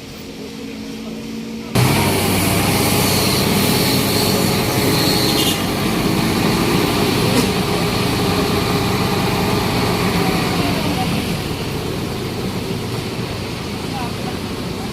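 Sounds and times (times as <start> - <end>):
vehicle engine running: 1.8 - 14.9.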